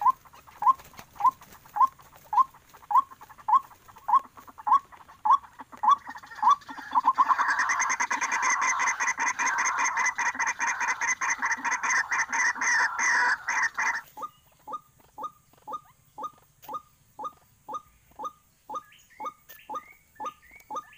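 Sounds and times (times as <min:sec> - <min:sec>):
waterhen calling: 0:00.0 - 0:20.9.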